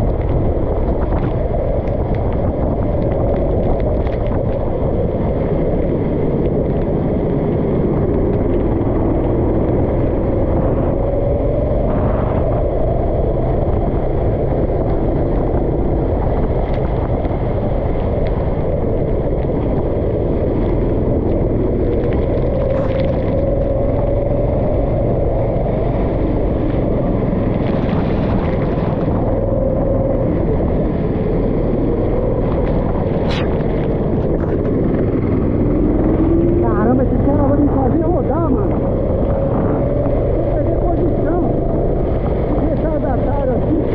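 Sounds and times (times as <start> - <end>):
kart engine running: 0.0 - 43.9
wind buffeting microphone: 0.0 - 43.9.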